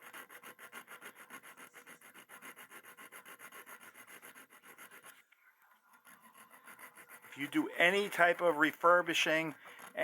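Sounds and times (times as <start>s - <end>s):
file rasping on steel: 0.0s - 5.2s, 5.9s - 10.0s.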